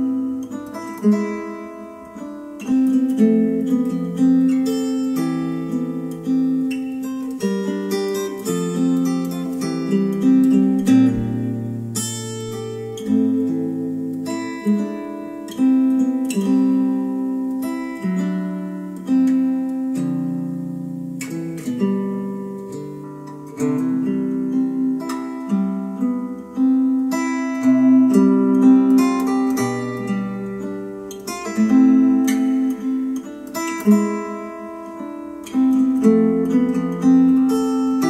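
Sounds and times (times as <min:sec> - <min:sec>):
acoustic guitar chords: 0:00.0 - 0:38.0.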